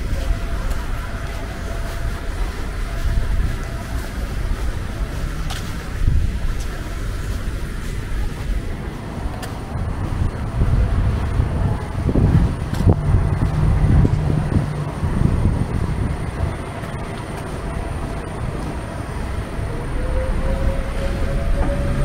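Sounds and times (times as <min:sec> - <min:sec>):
faint engine hum rising: 0:00.0 - 0:22.0
traffic rumble: 0:00.0 - 0:22.0
wind buffeting the microphone: 0:00.0 - 0:22.0.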